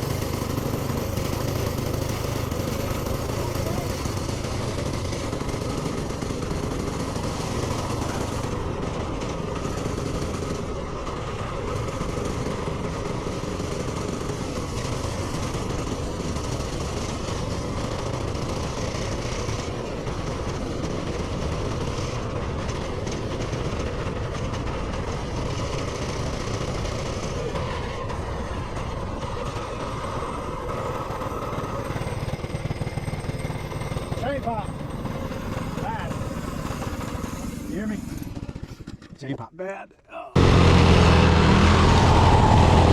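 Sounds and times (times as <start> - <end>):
minibike engine running: 0.0 - 39.4
wind and road noise: 0.0 - 39.4, 40.4 - 42.9.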